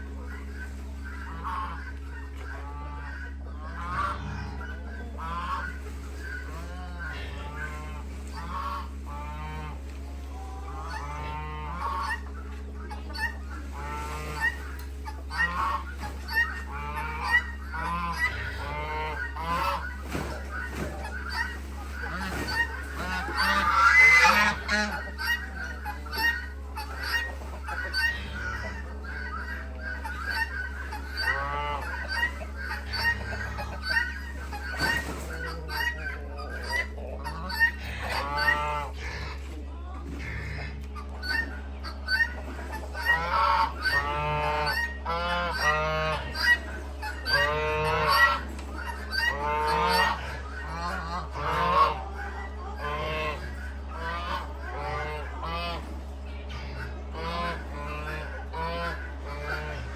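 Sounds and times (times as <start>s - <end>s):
geese honking: 0.0s - 59.9s
steady low hum: 0.0s - 59.9s.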